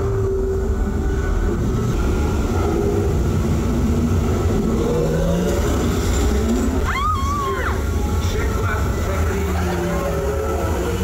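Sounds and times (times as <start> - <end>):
ride boat rumbling in channel: 0.0 - 11.0.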